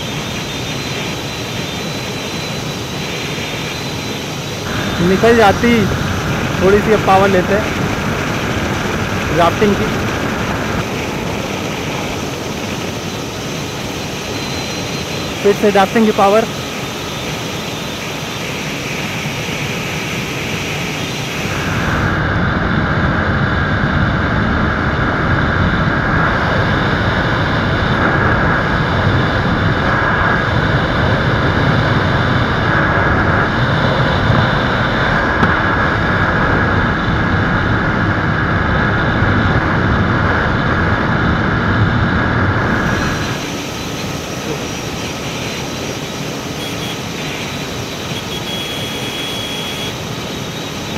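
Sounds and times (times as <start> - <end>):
wind over microphone: 0.0 - 15.6, 16.5 - 46.6
motorcycles at full speed: 0.0 - 50.9.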